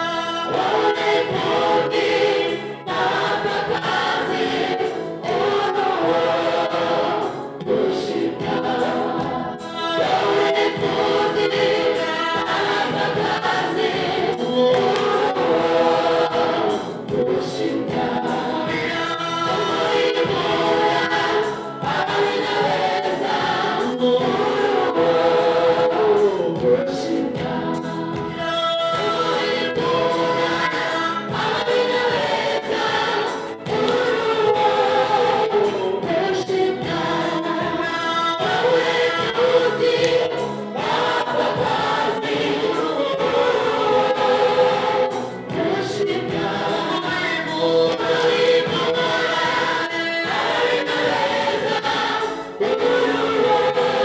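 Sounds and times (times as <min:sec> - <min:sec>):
gospel choir singing: 0:00.0 - 0:54.0.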